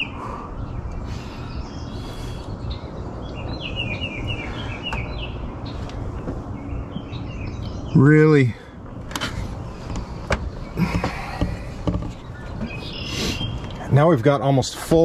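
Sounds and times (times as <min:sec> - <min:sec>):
steady low rumble: 0:00.0 - 0:14.8
birds chirping: 0:00.0 - 0:15.0.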